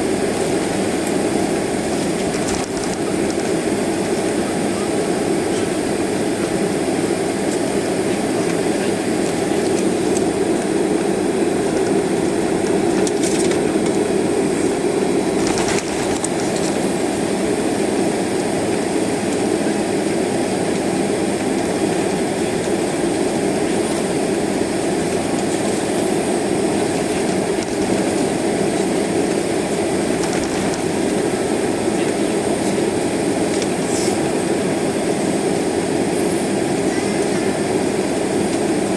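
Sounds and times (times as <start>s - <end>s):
air conditioning: 0.0s - 38.9s
idling jet engines rumble: 0.0s - 38.9s.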